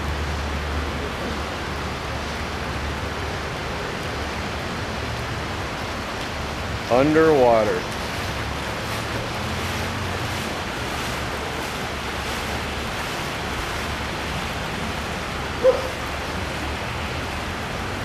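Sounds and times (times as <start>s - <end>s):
heavy rain on water: 0.0s - 18.0s.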